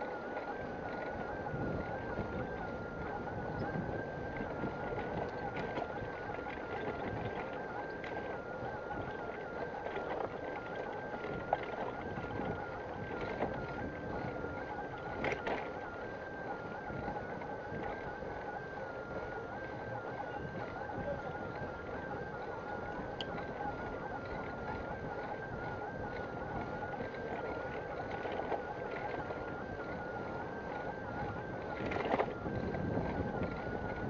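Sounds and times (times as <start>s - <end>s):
bicycle riding noise: 0.0s - 34.0s
wind on microphone: 0.0s - 34.0s.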